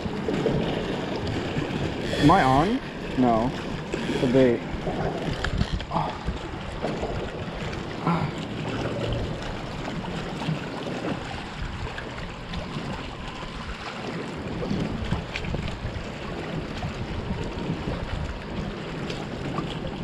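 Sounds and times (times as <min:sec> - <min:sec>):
water lapping against hull: 0:00.0 - 0:20.0.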